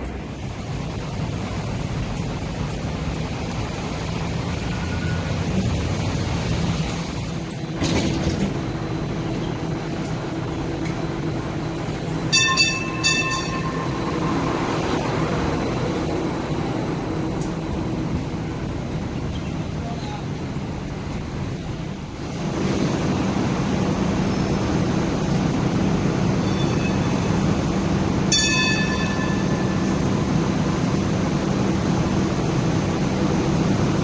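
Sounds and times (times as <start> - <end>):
light rail vehicle humming: 0.0 - 34.0.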